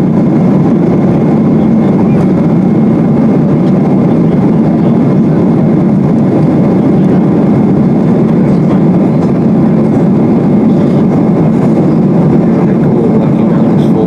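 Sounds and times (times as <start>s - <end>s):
airliner cabin engine noise: 0.0s - 14.0s.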